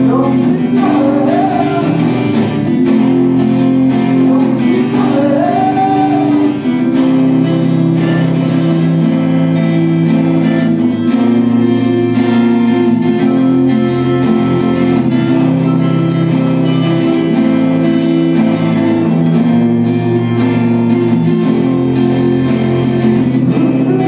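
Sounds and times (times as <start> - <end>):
acoustic guitar chords: 0.0 - 24.0
guitar melody line: 0.0 - 24.0.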